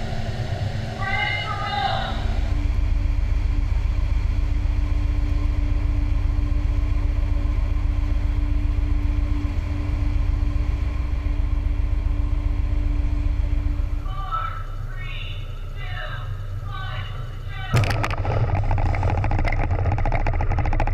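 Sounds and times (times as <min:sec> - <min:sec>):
aircraft engine drone: 0:00.0 - 0:20.9.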